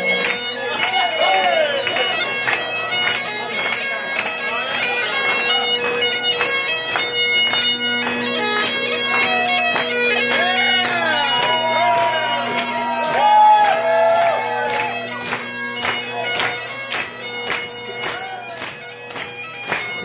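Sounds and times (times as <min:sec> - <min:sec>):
bagpipe chanter melody: 0:00.0 - 0:20.0
bagpipe drone hum: 0:00.0 - 0:20.0.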